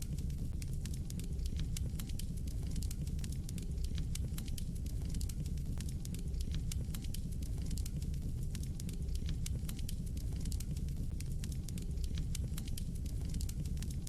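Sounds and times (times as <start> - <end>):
fire crackling and popping: 0.0 - 14.0
low rumble of flame: 0.0 - 14.0.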